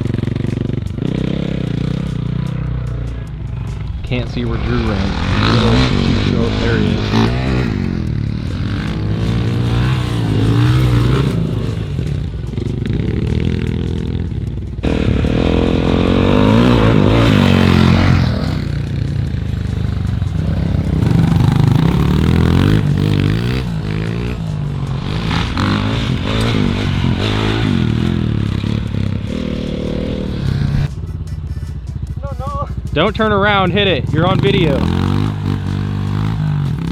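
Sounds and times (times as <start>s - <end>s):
dirt bike engine revving: 0.0s - 32.1s, 32.8s - 36.9s.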